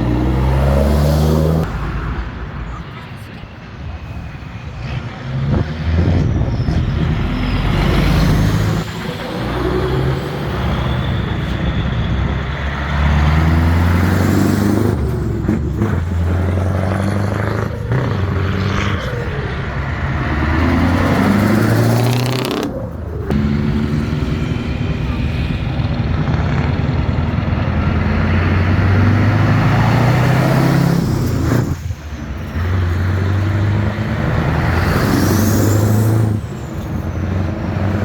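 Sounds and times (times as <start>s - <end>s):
truck engines revving: 0.0s - 38.0s.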